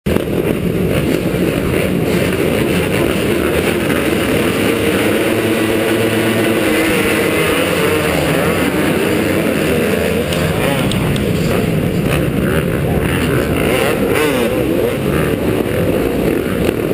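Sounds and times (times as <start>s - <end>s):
motocross bikes revving: 0.1s - 16.9s.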